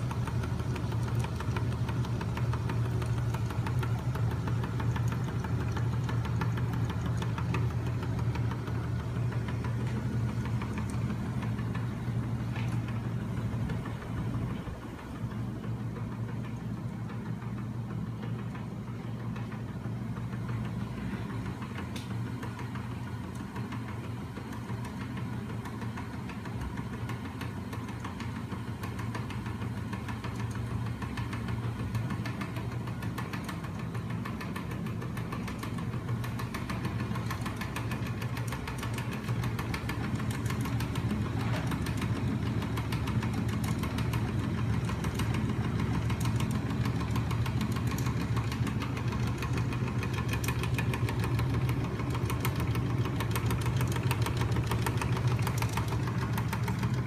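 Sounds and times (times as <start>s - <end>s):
motor low hum: 0.0s - 57.0s
rapid mechanical clatter: 0.0s - 57.0s.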